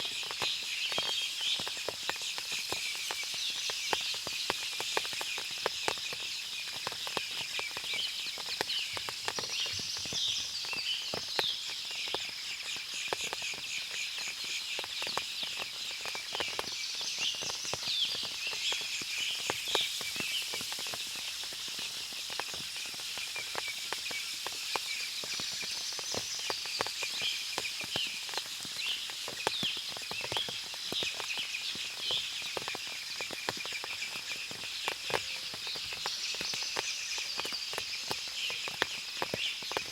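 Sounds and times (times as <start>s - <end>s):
birds chirping: 0.0s - 39.9s
high insect chorus: 0.0s - 39.9s
water dripping through trees: 0.0s - 39.9s.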